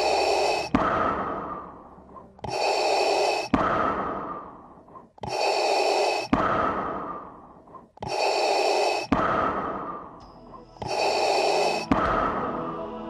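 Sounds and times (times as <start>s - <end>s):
mechanical respirator breathing: 0.0s - 12.5s.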